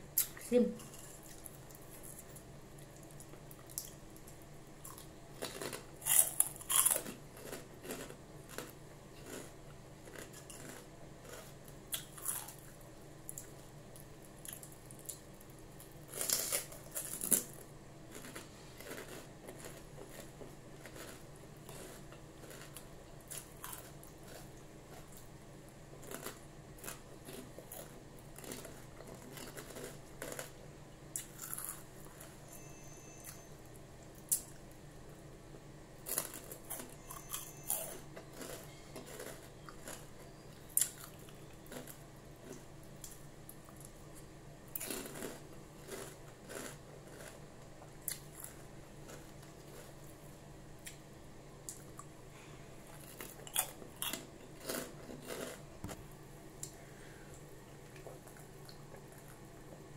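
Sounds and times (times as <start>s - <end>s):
crunching pork rinds: 0.8s - 25.3s, 26.0s - 32.4s, 36.0s - 44.0s, 44.7s - 51.0s, 52.9s - 56.1s.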